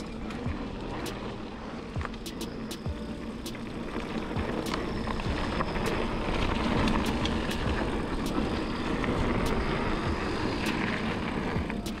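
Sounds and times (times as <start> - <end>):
bike clicks and rattles: 0.0 - 12.0
bike tires rolling on dirt: 0.0 - 12.0
wind rumbling on microphone: 0.0 - 12.0.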